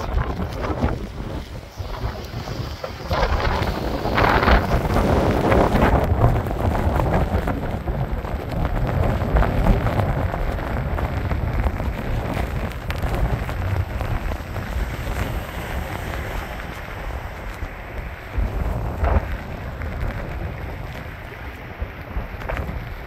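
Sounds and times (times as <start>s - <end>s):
rain and surf: 0.0s - 23.0s
wind buffeting microphone: 0.0s - 23.0s.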